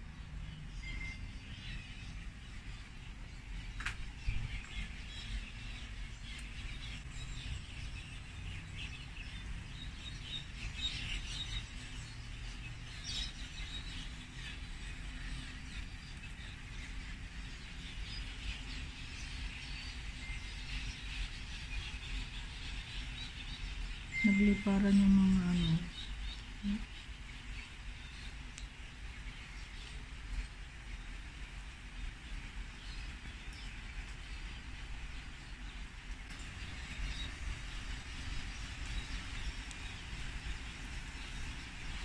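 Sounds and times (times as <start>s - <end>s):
light rain falling: 0.0s - 42.0s
birds chirping: 0.1s - 42.0s.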